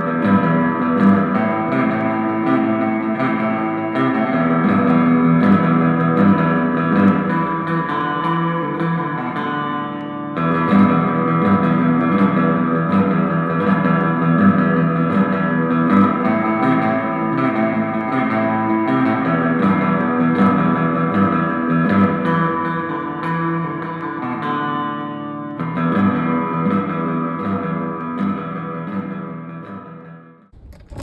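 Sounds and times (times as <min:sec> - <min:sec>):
guitar music with beat: 0:00.0 - 0:30.5.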